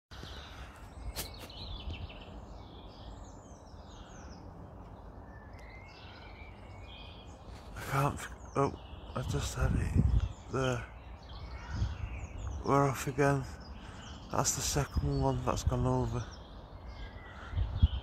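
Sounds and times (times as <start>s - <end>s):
small birds chirping: 0.1s - 18.0s.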